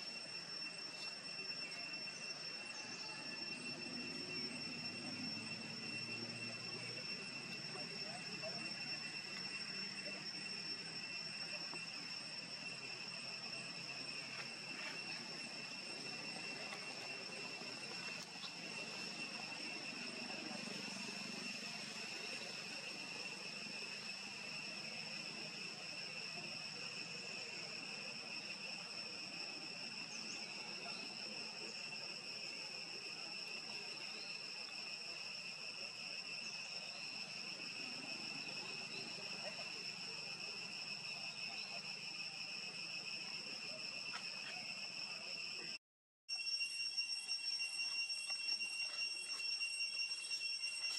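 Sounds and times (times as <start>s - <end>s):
faint outdoor background noise: 0.0s - 50.9s
insects droning: 0.0s - 50.9s.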